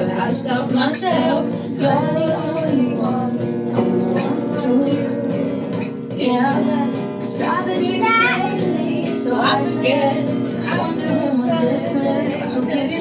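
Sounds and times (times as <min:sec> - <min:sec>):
guitar accompaniment: 0:00.0 - 0:13.0
woman singing a pop song: 0:00.0 - 0:13.0.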